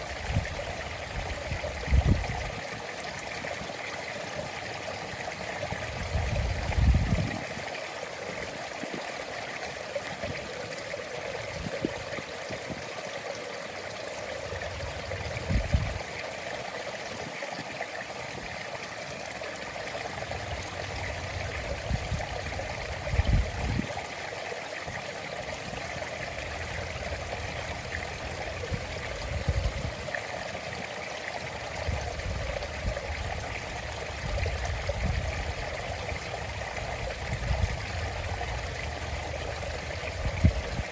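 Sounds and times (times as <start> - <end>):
stream running over stones: 0.0 - 40.9.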